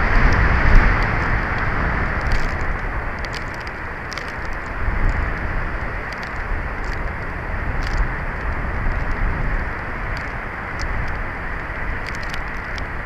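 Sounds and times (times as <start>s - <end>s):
faint ticks and crackles: 0.0s - 13.0s
wind buffeting microphone: 0.0s - 13.0s.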